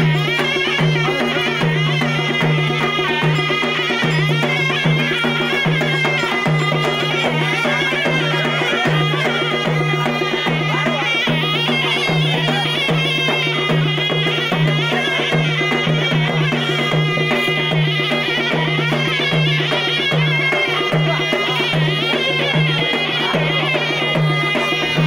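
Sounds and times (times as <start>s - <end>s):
folk dance music: 0.0s - 25.0s.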